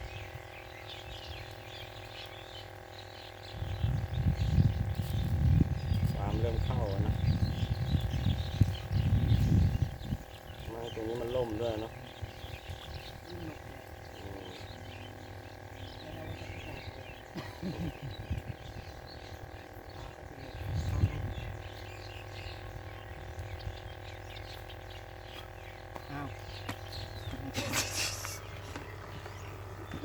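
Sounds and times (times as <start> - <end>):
birds chirping: 0.0 - 30.0
steady hum: 0.0 - 30.0.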